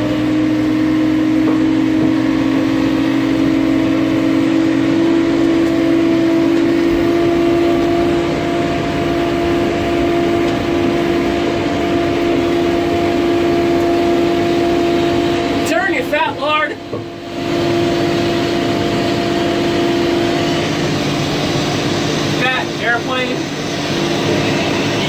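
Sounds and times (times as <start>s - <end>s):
higher whine: 0.0s - 25.0s.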